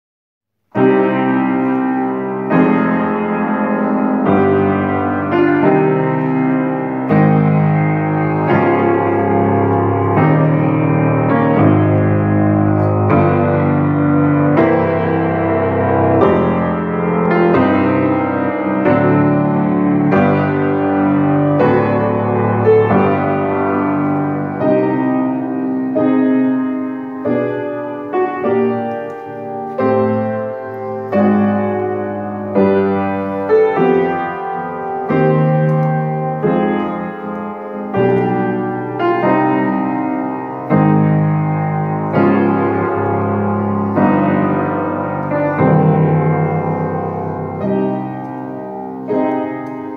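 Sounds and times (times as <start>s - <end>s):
grand piano playing: 0.5s - 49.9s.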